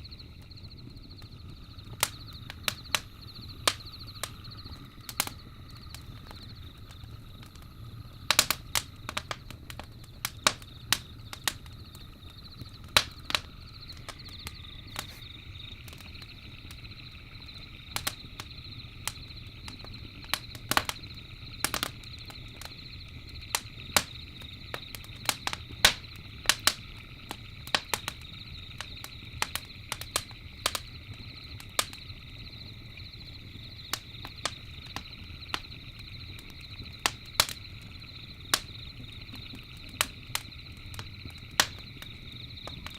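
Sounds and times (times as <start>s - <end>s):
campfire crackling: 0.0s - 42.9s
night insects trilling: 0.0s - 42.9s.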